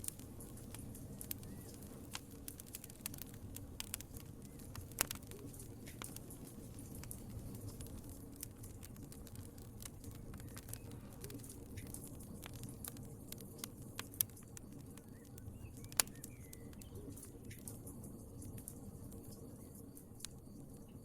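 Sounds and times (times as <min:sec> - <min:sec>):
loud pops of fire: 0:00.0 - 0:19.3
wood fire crackling: 0:00.0 - 0:21.0.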